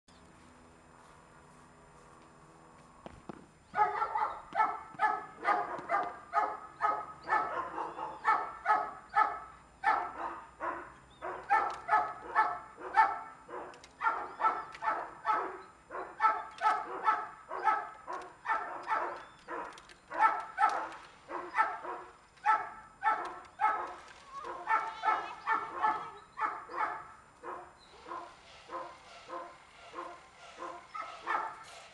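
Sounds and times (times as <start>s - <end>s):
dog barking: 3.7s - 31.9s.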